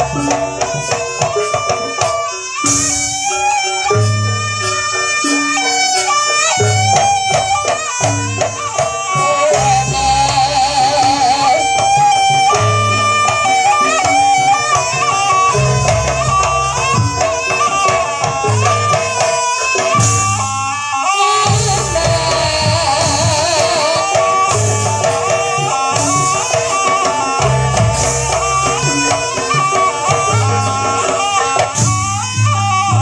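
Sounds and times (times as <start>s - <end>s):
drums: 0.0s - 33.0s
low drum beats: 0.0s - 33.0s
reed pipe melody: 0.0s - 33.0s.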